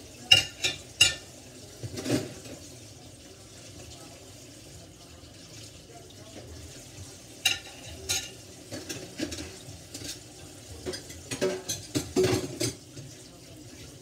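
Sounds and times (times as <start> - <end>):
faucet running into steel sink: 0.0 - 14.0.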